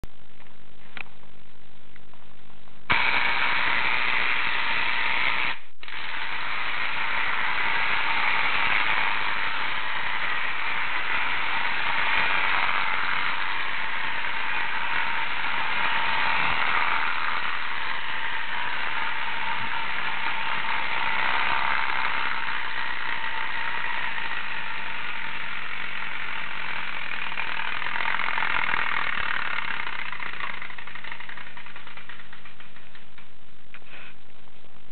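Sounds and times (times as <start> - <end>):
clockwork toy motor whirring: 2.9 - 33.3.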